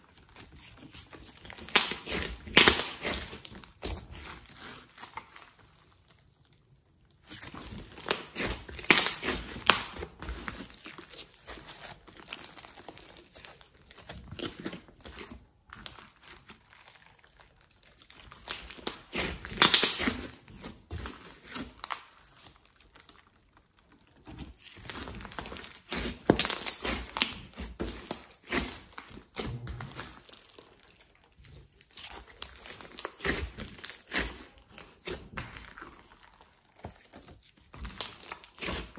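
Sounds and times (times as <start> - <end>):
hands kneading slime: 0.0 - 38.9
slime crackling and popping: 0.0 - 38.9.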